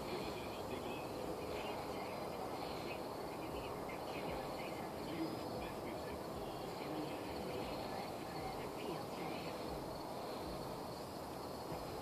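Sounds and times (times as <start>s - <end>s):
insects chirping: 0.0s - 12.0s
low background hiss: 0.0s - 12.0s.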